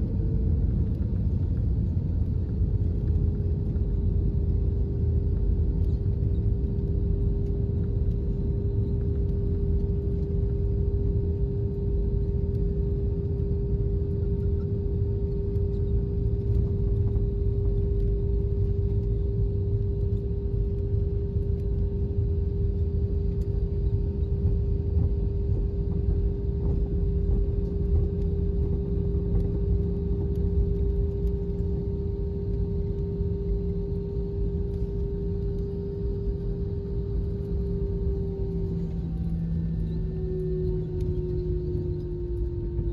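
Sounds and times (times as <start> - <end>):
constant hum tone: 0.0 - 42.9
lower hum: 0.0 - 42.9.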